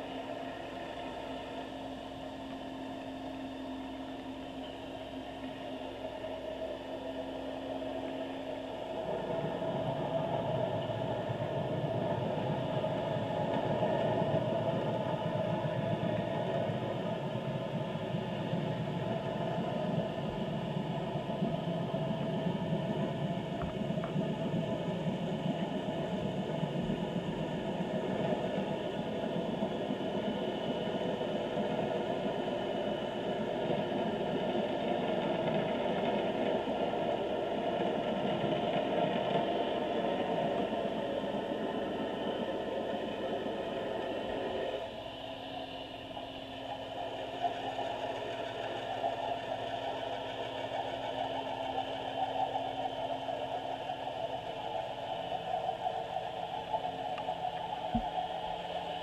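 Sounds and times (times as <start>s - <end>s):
underwater drone and hiss: 0.0s - 59.0s.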